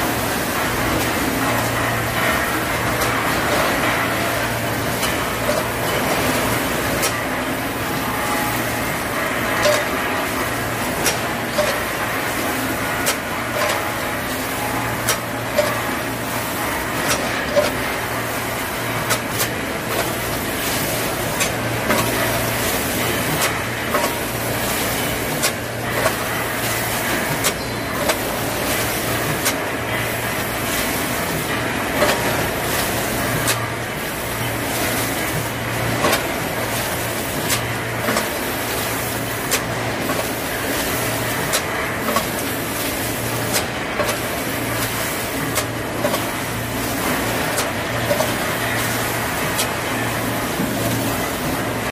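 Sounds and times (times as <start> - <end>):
packing machine humming: 0.0 - 51.9
machine grippers clacking: 7.9 - 51.9.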